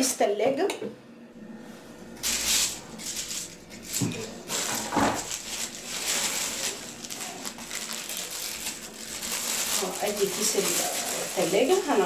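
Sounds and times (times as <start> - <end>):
plastic bag crinkling: 2.2 - 12.0.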